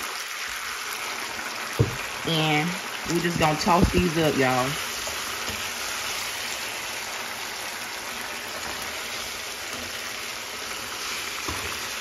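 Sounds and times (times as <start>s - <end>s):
oil sizzling in a skillet: 0.0s - 12.0s.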